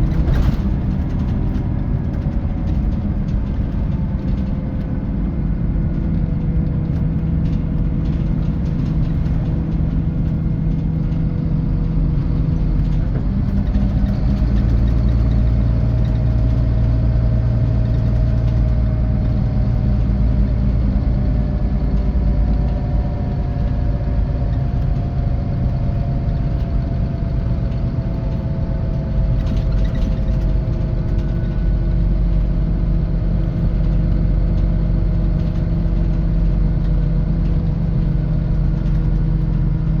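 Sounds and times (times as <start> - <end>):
coach engine from inside cabin: 0.0 - 40.0.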